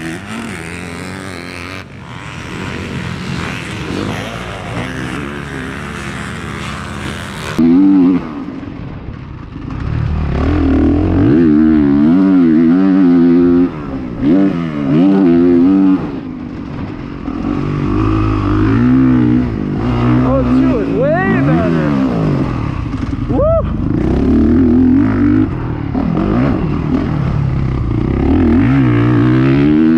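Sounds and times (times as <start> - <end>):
dirt bike engine revving: 0.0 - 29.9
distant motocross bike engine: 0.0 - 29.9.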